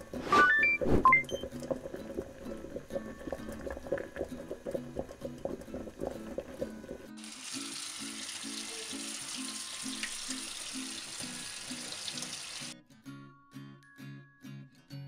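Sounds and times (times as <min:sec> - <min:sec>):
water boiling in pot: 0:00.0 - 0:12.8
background music: 0:00.0 - 0:15.0.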